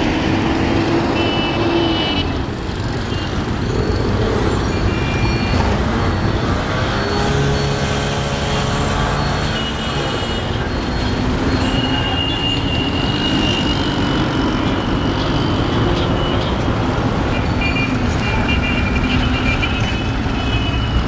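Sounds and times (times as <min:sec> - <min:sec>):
road traffic engines: 0:00.0 - 0:21.0.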